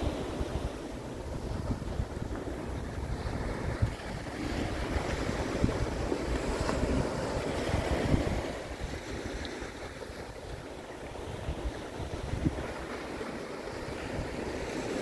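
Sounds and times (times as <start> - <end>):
small waves breaking on beach: 0.0 - 15.0
wind buffeting microphone: 0.0 - 15.0.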